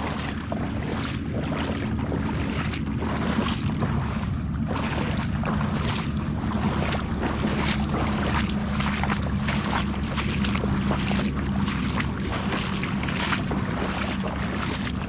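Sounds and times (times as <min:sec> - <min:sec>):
footsteps splashing through water: 0:00.0 - 0:15.0
wind rumble on microphone: 0:00.0 - 0:15.0.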